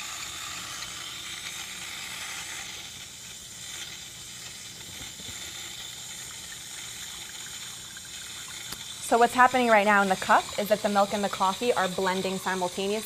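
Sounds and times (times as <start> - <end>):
faint machine hum: 0.0 - 13.0
steam milk frothing hiss: 0.0 - 13.0.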